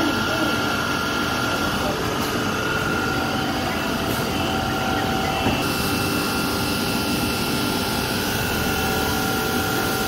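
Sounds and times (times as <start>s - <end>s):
machinery drone: 0.0s - 10.0s
whining tones: 0.0s - 10.0s.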